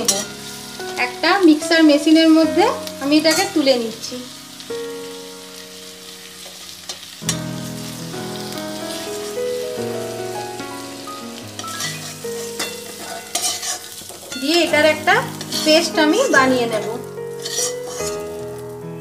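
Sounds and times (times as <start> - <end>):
instrumental music with held chords: 0.0 - 13.4, 14.7 - 19.0
vegetables sizzling in oil: 0.0 - 19.0.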